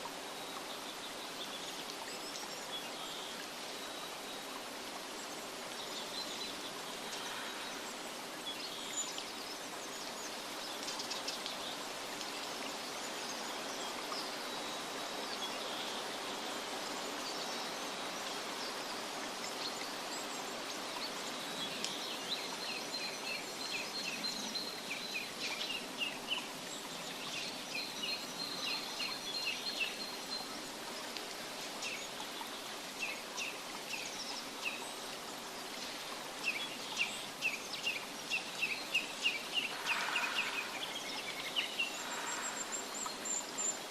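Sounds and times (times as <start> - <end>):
running water hiss: 0.0 - 43.9.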